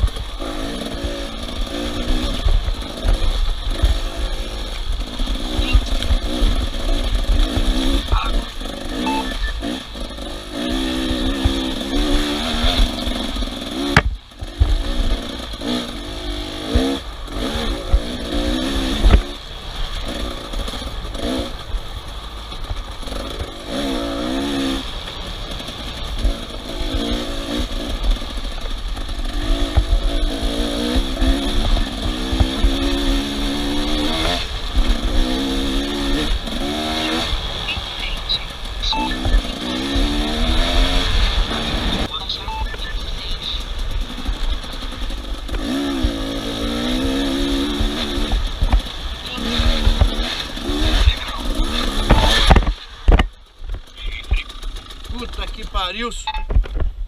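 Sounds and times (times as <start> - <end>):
off-road vehicle engines revving: 0.0 - 56.9
heavy low rumble: 0.0 - 57.0.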